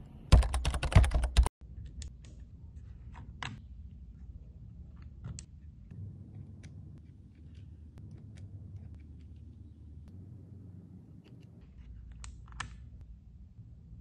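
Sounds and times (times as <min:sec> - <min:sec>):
low room hum: 0:01.6 - 0:14.0.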